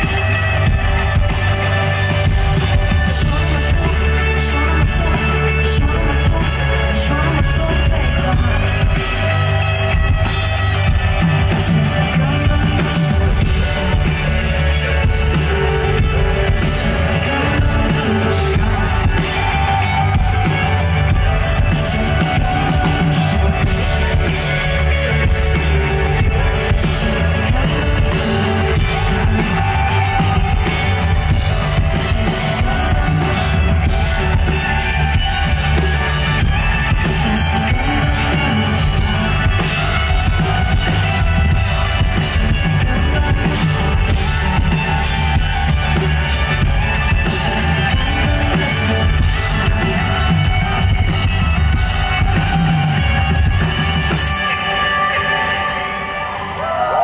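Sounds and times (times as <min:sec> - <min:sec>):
live rock band music: 0:00.0 - 0:57.0
person singing into a microphone: 0:00.0 - 0:57.0.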